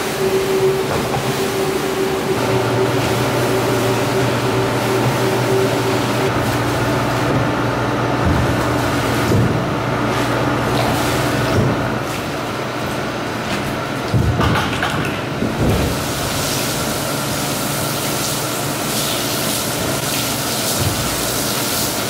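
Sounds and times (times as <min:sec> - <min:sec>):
pressure washer spraying water: 0:00.0 - 0:12.4, 0:15.7 - 0:22.0
floor scrubber humming: 0:00.0 - 0:22.0.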